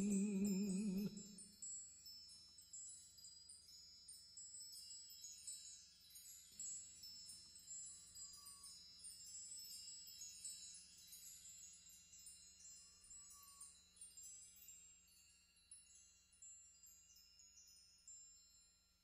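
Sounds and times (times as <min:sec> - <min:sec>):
chimes tinkling: 0:00.0 - 0:19.0.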